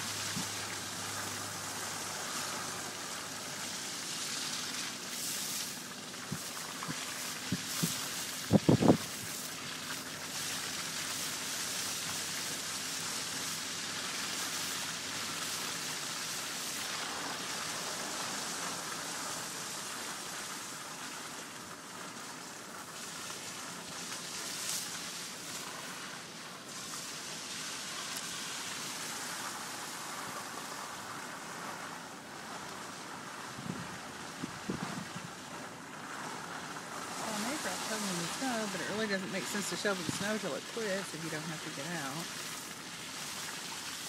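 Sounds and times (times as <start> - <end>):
tyres hissing on wet road: 0.0 - 44.0.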